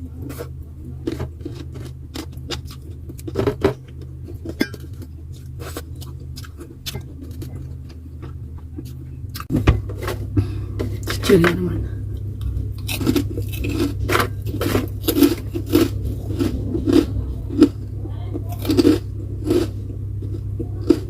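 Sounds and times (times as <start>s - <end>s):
person chewing crunchy food: 0.0s - 11.2s, 12.0s - 21.0s
steady low hum: 0.0s - 21.0s.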